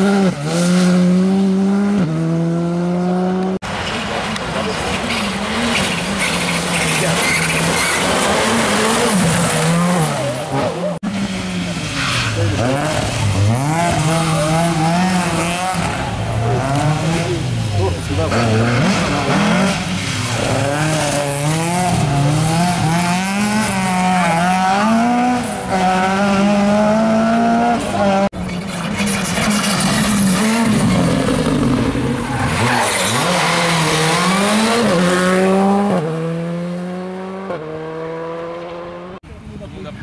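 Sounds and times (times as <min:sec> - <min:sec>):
rally car engine revving: 0:00.0 - 0:39.2.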